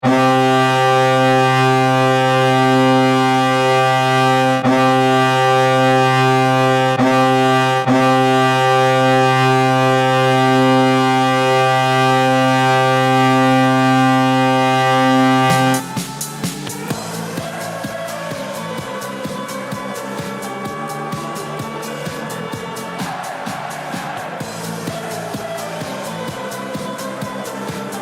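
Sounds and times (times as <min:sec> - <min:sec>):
goal horn low blast: 0:00.0 - 0:28.0.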